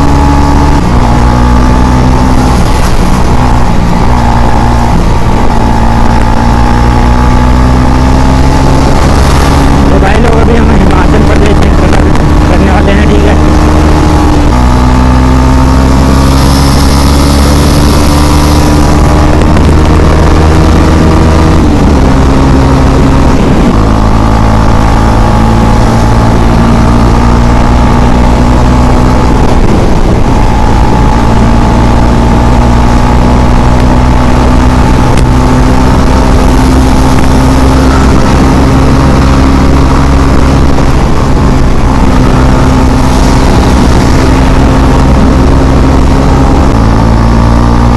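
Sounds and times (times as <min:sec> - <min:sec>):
motorcycle engine running hard: 0:00.0 - 0:47.9.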